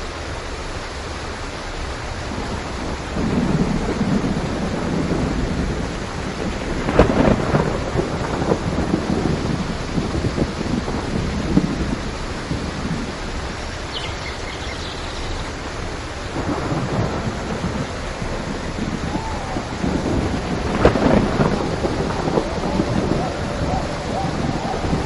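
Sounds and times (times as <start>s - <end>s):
steady rain: 0.0s - 25.0s
rolling thunder: 2.3s - 25.0s.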